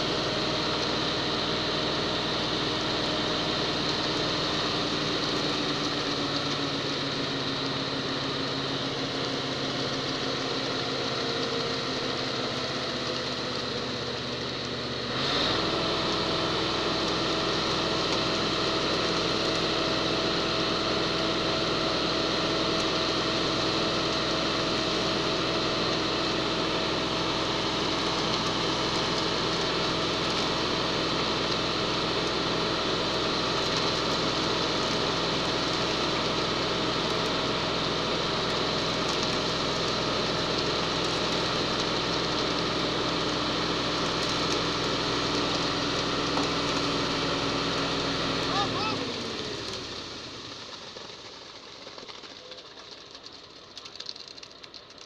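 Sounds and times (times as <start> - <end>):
concrete pouring down chute: 0.0 - 55.0
diesel engine running: 0.0 - 55.0.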